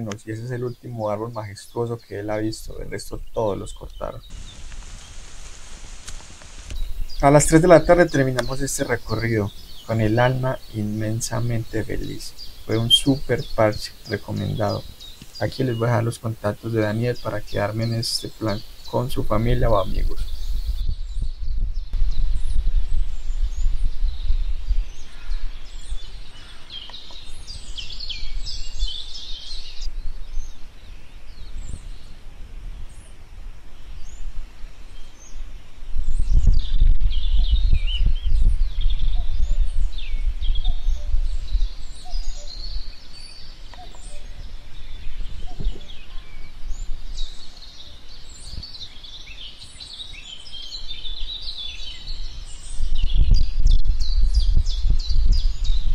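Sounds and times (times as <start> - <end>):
wild birds chirping: 0.0 - 55.9.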